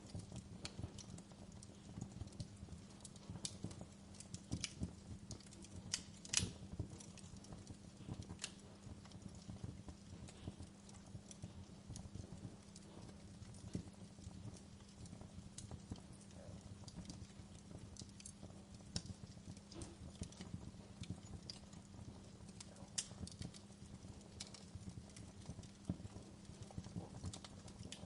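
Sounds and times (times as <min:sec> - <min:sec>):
low steady hum: 0:00.0 - 0:28.0
wood fire crackling: 0:00.0 - 0:28.0.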